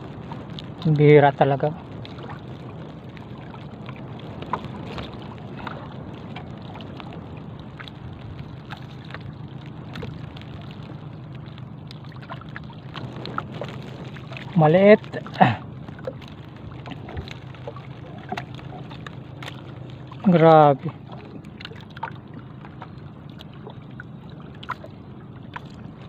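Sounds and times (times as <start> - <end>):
water washing around boat: 0.0 - 26.0
wind: 0.0 - 26.0.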